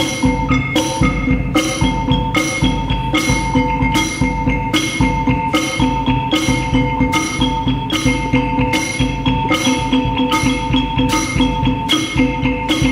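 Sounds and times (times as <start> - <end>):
percussion ensemble playing: 0.0 - 12.9.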